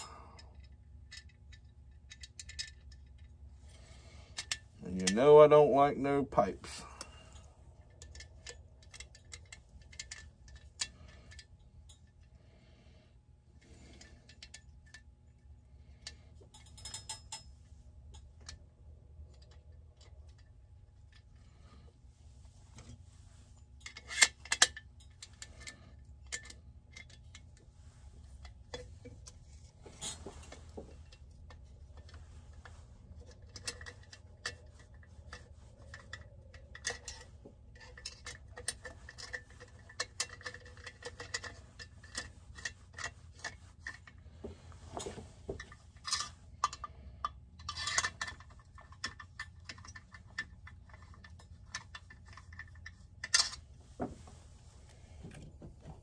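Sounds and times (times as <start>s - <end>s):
metal parts and tools clinking: 0.0s - 12.4s, 13.6s - 18.6s, 22.7s - 56.0s
steady low hum: 0.0s - 56.0s.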